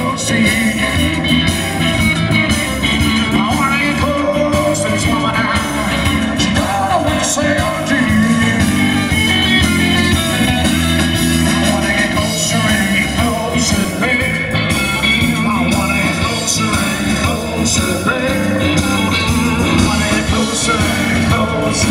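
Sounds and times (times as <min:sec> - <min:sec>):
live rock and roll band: 0:00.0 - 0:21.9.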